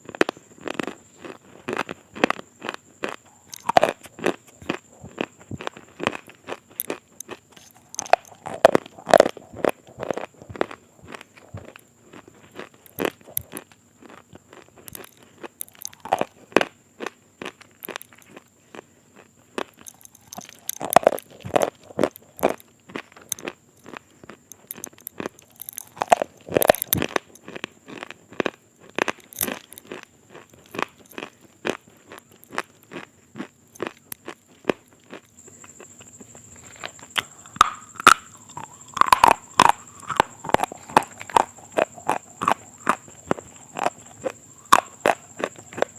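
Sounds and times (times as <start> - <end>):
crunching crisp food: 0.0 - 45.9.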